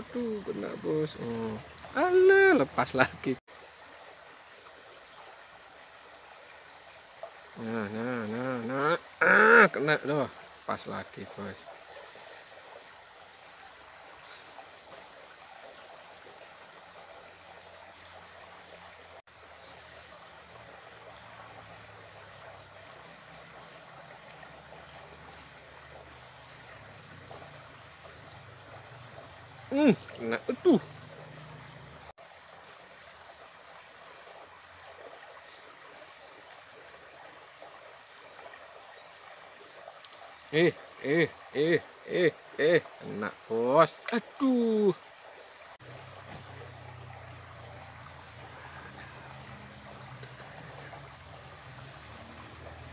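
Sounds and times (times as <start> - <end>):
mountain stream running over rocks: 0.0 - 52.9.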